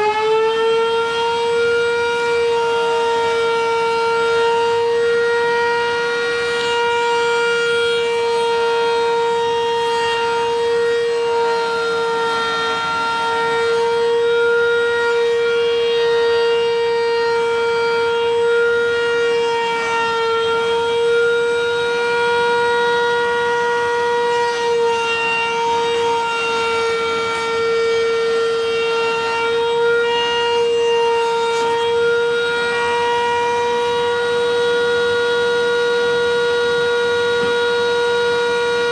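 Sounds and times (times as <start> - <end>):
router whining: 0.0 - 38.9.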